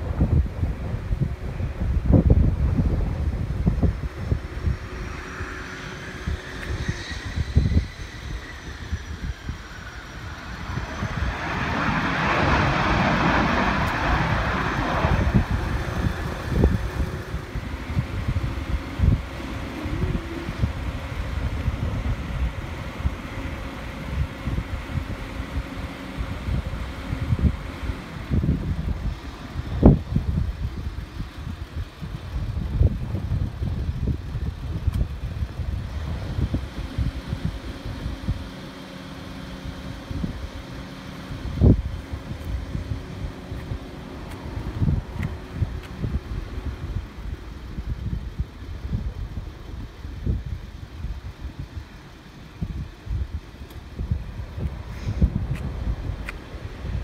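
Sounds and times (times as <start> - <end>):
jet engine rush: 0.0 - 57.0
wind buffeting microphone: 0.0 - 57.0.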